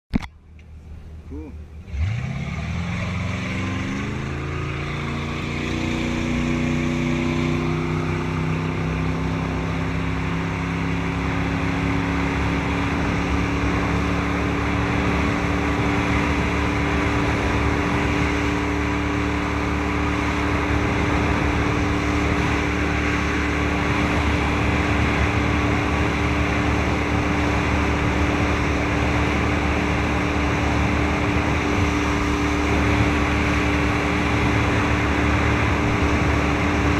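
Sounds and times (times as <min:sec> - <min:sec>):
boat engine running: 0:00.0 - 0:36.9
wind and water rushing: 0:02.0 - 0:36.9.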